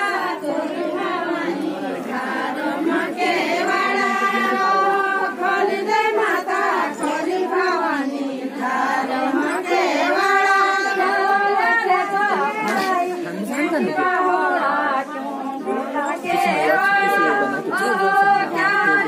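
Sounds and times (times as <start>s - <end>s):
women singing in unison: 0.0s - 19.0s.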